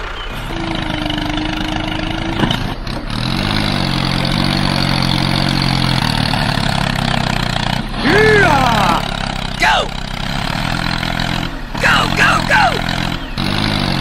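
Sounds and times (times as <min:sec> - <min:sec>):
small tractor motor running: 0:00.0 - 0:14.0.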